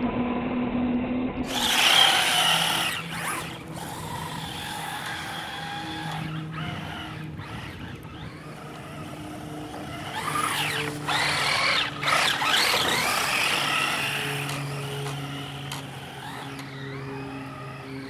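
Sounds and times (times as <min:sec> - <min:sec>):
electric motor whining: 0:01.4 - 0:18.0
tyres churning through snow: 0:01.5 - 0:18.0.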